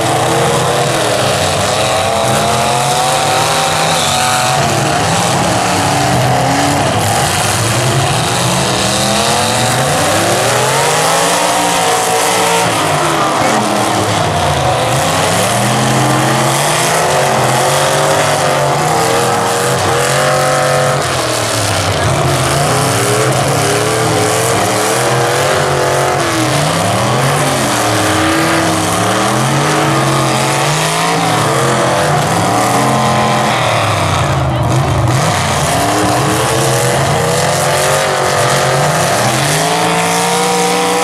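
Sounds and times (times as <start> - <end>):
car engines revving: 0.0 - 41.0
crowd din: 0.0 - 41.0.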